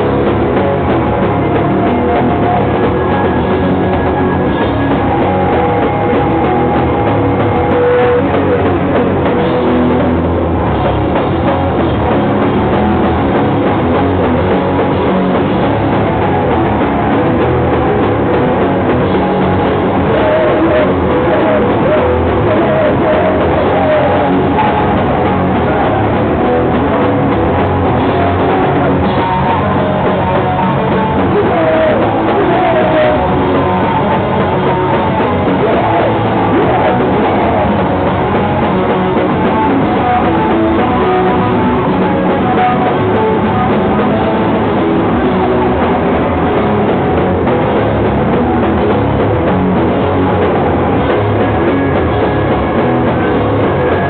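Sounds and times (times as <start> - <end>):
live rock band: 0.0 - 54.0.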